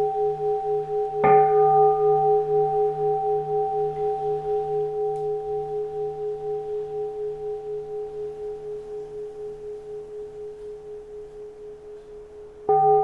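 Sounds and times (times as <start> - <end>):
bowl bell ringing: 0.0 - 11.5, 12.7 - 13.0.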